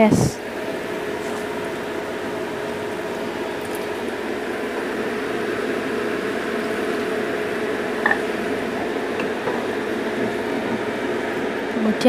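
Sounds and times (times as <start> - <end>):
paste sizzling in a frying pan: 0.6 - 11.5.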